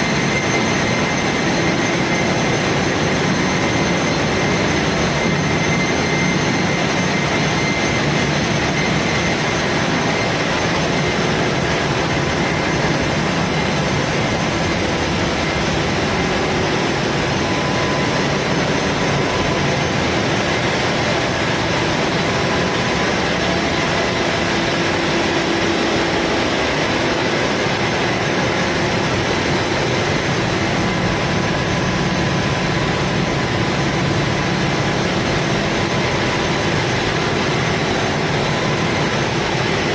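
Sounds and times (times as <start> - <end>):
engine room machinery rumble: 0.0 - 39.9
faint machinery hums and whines: 0.0 - 39.9.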